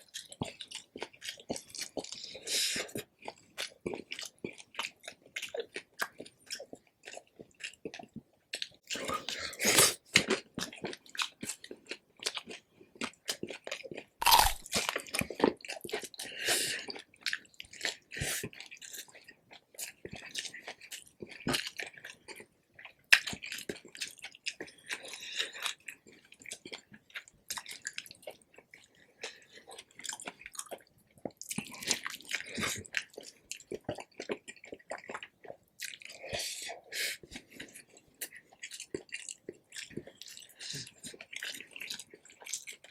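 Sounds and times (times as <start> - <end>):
crunchy chewing: 0.0 - 42.9.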